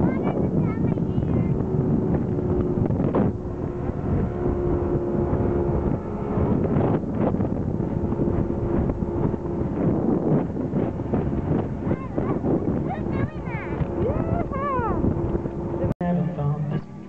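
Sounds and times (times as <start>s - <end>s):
wind buffeting microphone: 0.0s - 16.0s
motorboat engine running: 0.0s - 17.0s.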